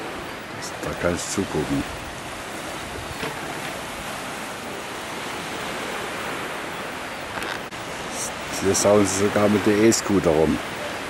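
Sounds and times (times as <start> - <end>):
gentle surf: 0.0 - 11.0
wind: 0.0 - 11.0.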